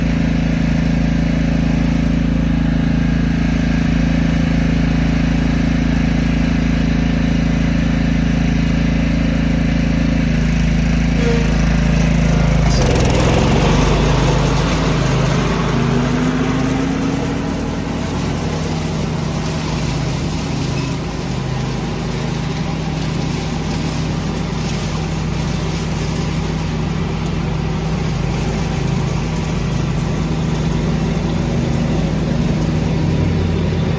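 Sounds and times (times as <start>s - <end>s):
small petrol engine running: 0.0s - 33.9s.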